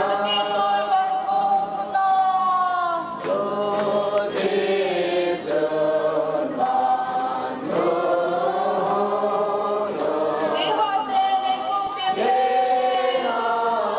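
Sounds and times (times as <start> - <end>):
group singing long notes: 0.0 - 2.0, 2.9 - 13.9.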